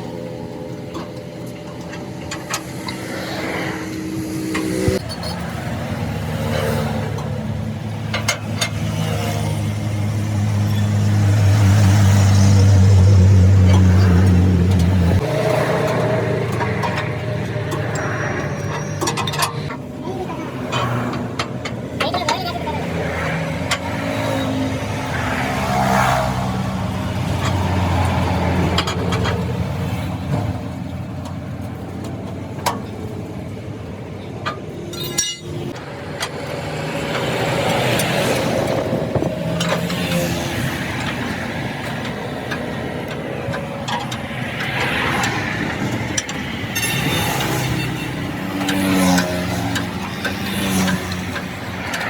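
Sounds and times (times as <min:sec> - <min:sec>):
vehicles passing on a road: 0:00.0 - 0:52.0.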